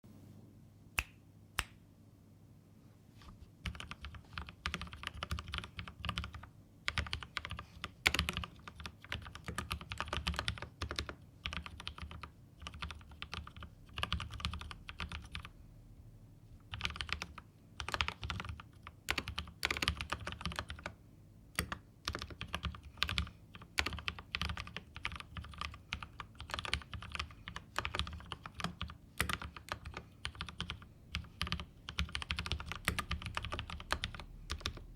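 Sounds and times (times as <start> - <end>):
mechanical keyboard typing: 3.6 - 15.5, 16.6 - 34.9.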